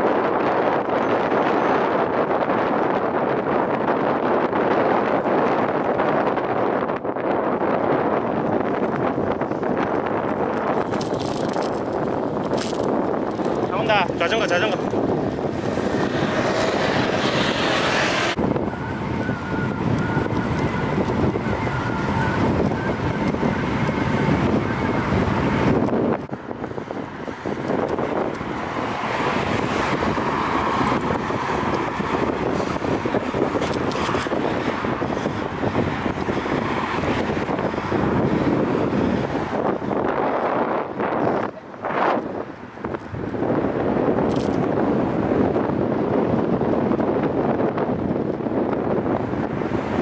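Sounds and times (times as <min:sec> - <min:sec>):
road traffic passing: 0:00.0 - 0:50.0
wind rushing over microphone: 0:00.0 - 0:50.0.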